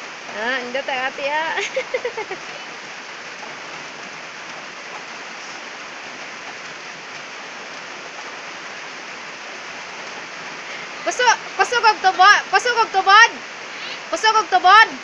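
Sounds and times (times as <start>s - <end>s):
rain on plastic containers: 0.0s - 15.0s.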